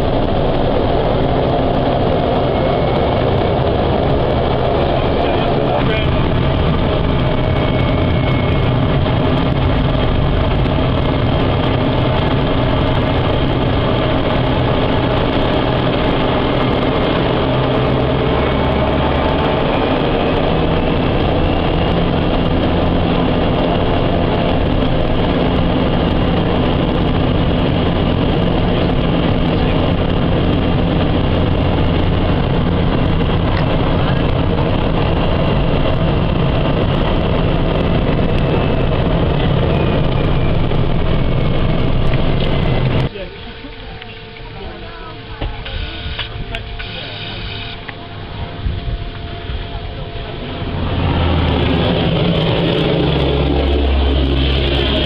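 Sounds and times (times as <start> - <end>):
propeller engine drone: 0.0 - 55.0.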